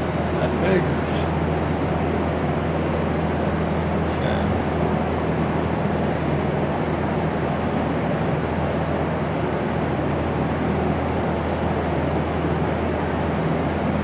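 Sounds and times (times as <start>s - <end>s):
machine hum with rushing: 0.0s - 14.0s.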